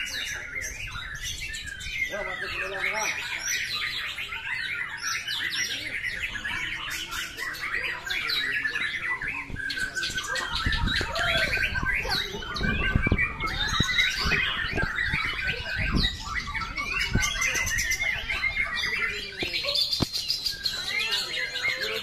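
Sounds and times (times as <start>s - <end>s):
birds singing: 0.0s - 22.0s.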